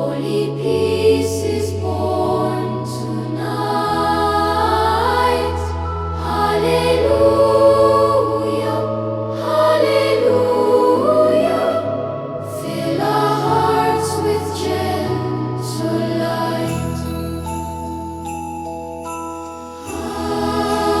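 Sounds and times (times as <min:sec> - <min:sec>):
choir singing held notes: 0:00.0 - 0:16.8, 0:19.8 - 0:21.0.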